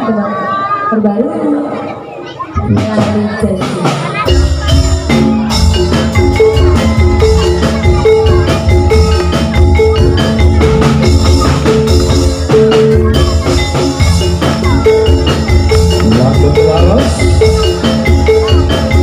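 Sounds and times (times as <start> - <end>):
bamboo percussion struck with mallets: 2.6 - 19.0
low drum beat: 2.6 - 19.0.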